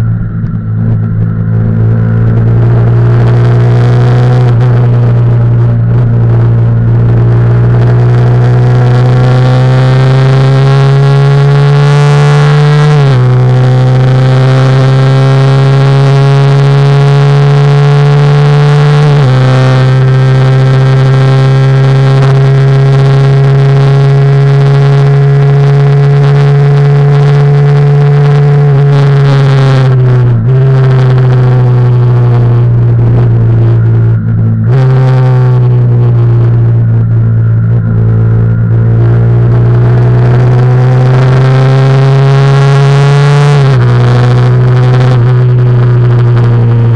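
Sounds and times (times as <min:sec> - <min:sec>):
wind noise: 0:00.0 - 0:17.4, 0:18.9 - 0:46.9
motorcycle engine revving high: 0:00.0 - 0:46.9.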